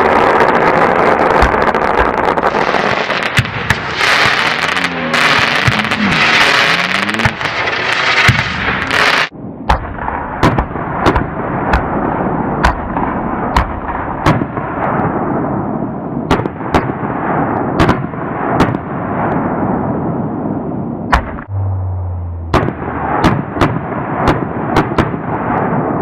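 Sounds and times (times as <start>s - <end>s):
fireworks bangs: 0.0s - 19.9s, 21.1s - 26.0s.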